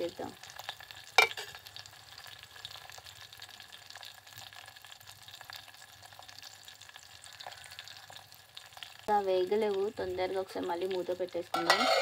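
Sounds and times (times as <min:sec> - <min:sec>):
onions frying in oil crackling: 0:00.0 - 0:12.0.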